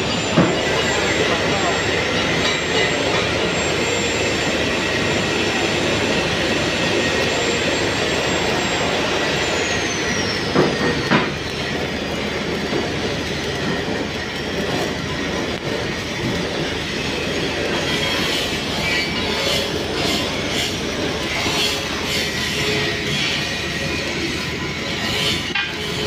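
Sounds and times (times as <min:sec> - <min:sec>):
welding arc crackling hiss: 0:00.0 - 0:26.0.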